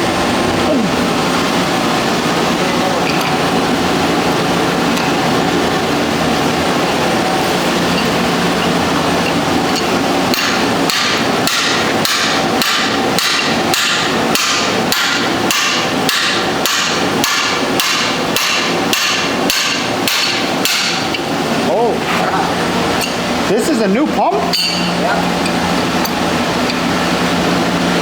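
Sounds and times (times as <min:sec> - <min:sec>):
steady background noise: 0:00.0 - 0:28.0.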